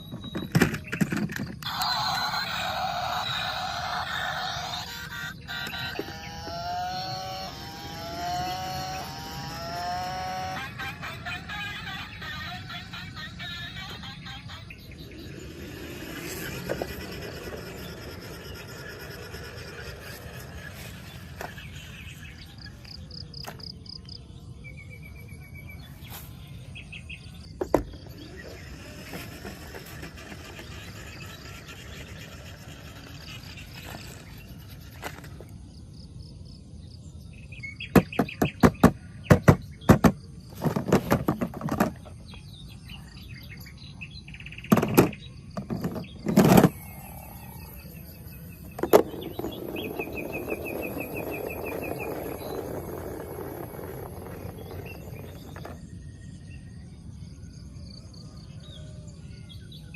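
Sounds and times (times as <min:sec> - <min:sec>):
birds chirping in trills: 0:00.0 - 0:59.9
outdoor background noise: 0:00.0 - 0:59.9.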